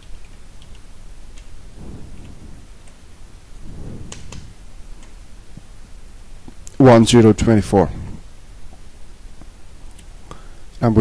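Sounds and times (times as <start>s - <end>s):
soft low rushes of noise: 0.0s - 10.3s
low hiss and rumble: 0.0s - 11.0s.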